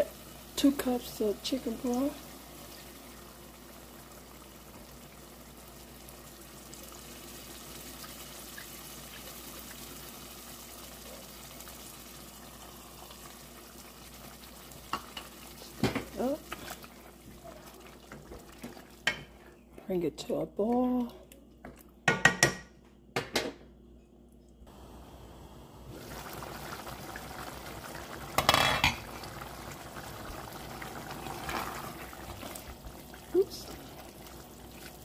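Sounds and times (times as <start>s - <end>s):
sauce sizzling in a pot: 0.0s - 19.6s, 24.7s - 35.0s.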